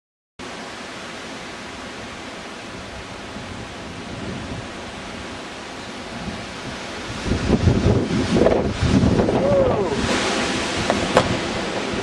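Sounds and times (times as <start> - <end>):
heavy rain falling: 0.4 - 12.0
wind buffeting microphone: 1.9 - 12.0.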